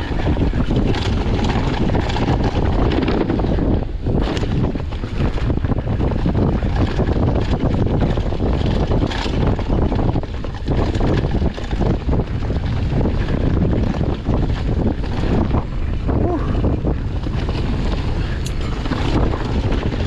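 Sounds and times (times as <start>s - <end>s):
bike rattling over bumps: 0.0s - 20.0s
wind buffeting microphone: 0.0s - 20.0s.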